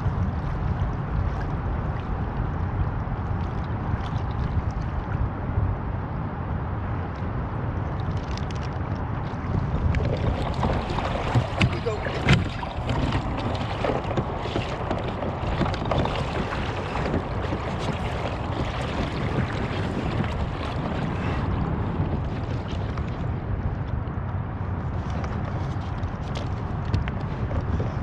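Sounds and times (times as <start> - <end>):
water sloshing against plastic hull: 0.0 - 5.5, 7.0 - 28.0
wind buffeting microphone: 0.0 - 28.0.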